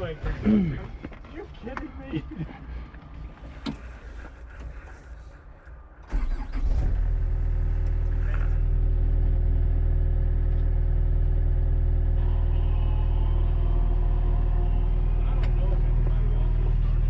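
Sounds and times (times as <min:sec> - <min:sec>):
diesel engine starting and idling: 0:02.8 - 0:17.0.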